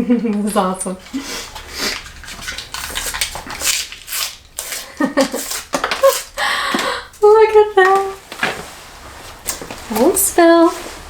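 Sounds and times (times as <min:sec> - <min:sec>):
snack packaging rustling: 0:00.4 - 0:11.0.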